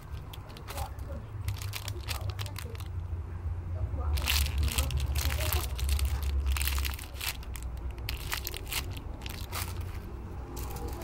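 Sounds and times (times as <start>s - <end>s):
plastic bags crinkling: 0.0s - 3.0s, 4.1s - 11.0s.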